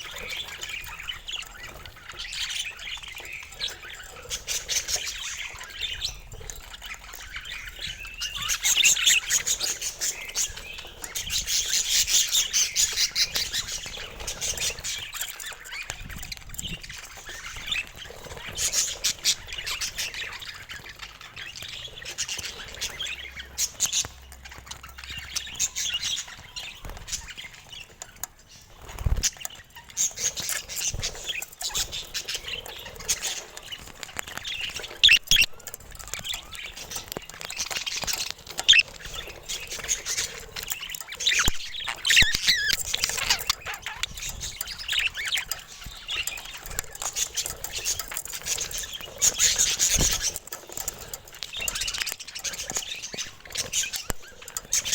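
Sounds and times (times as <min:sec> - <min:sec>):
budgerigars chattering: 0:00.0 - 0:54.9.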